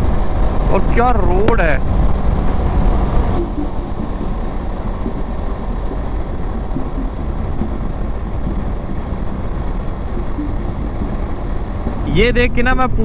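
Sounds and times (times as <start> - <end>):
motorcycle engine cruising: 0.0 - 13.0
road noise: 0.0 - 13.0
wind rush: 0.0 - 13.0.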